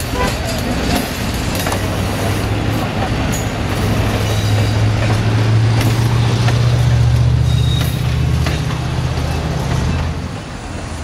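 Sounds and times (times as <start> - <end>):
train cars rolling past: 0.0 - 11.0.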